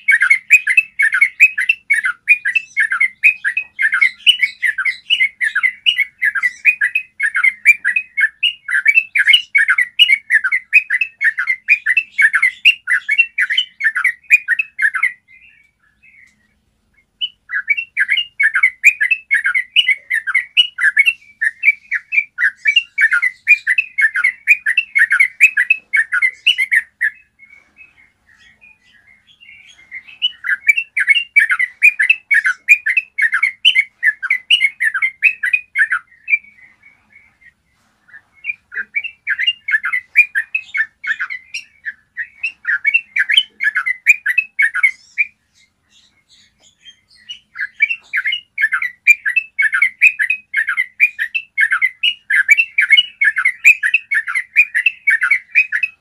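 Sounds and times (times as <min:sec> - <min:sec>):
bird singing rolling chatter: 0:00.0 - 0:56.0.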